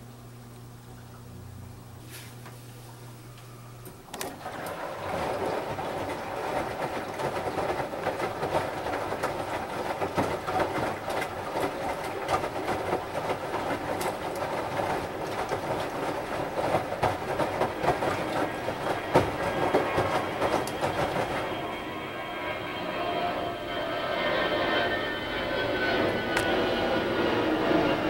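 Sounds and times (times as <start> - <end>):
washing machine tumbling wet clothes: 0.0 - 28.0
water sloshing in drum: 0.4 - 28.0.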